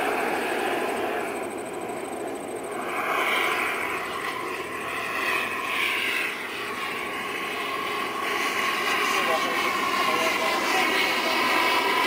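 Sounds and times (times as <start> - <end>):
model helicopter turbine whine: 0.0 - 12.0.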